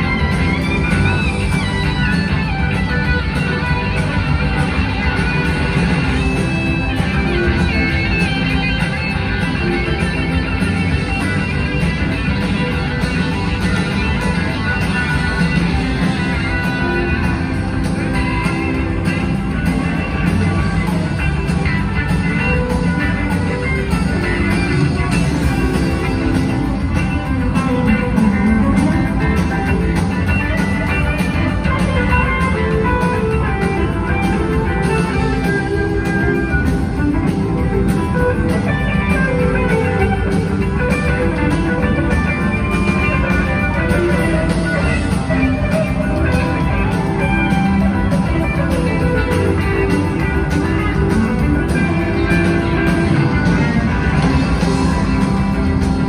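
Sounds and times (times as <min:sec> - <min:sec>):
electric guitars: 0:00.0 - 0:56.0
live rock band playing: 0:00.0 - 0:56.0.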